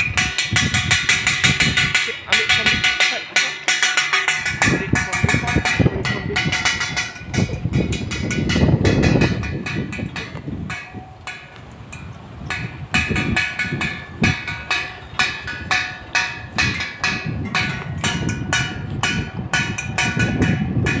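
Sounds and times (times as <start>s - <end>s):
wind rumble on microphone: 0.0s - 3.2s, 4.2s - 21.0s.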